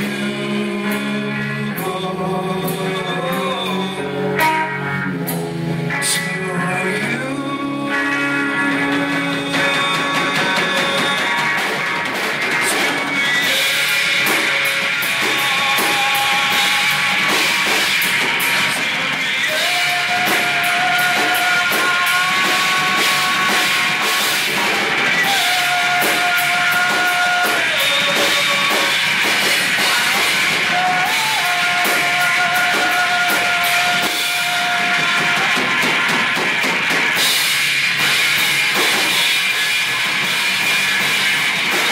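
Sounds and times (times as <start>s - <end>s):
electric guitars: 0.0s - 41.9s
live rock band playing: 0.0s - 41.9s
drum and cymbal hits: 7.9s - 41.9s.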